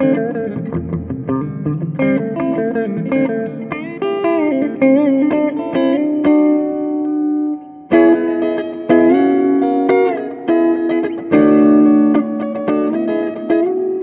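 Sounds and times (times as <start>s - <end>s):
electric guitar lead with bends: 0.0s - 14.0s.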